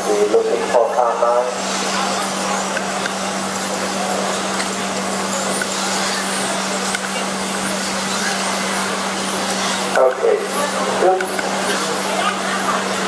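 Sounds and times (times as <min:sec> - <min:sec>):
constant low hum: 0:00.0 - 0:13.0
rc car motors whining: 0:00.0 - 0:13.0
steady noisy wash: 0:00.0 - 0:13.0.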